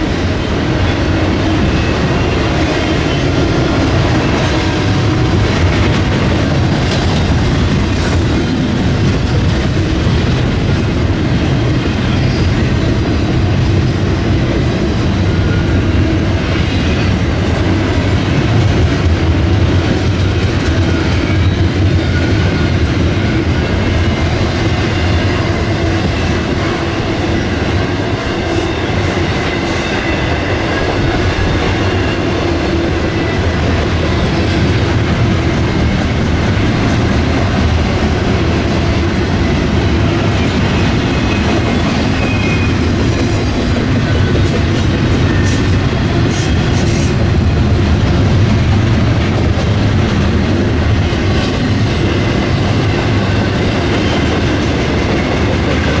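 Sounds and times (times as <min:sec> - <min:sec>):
freight train wheels rumbling on rails: 0:00.0 - 0:56.0
train cars clattering: 0:00.0 - 0:56.0.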